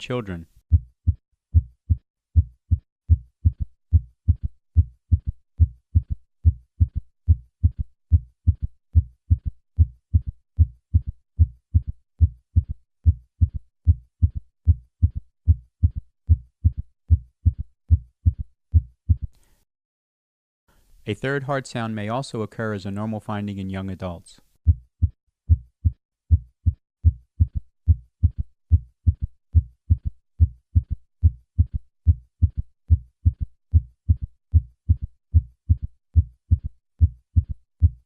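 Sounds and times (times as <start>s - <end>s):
heartbeat thuds: 0.7s - 19.3s, 24.7s - 38.0s.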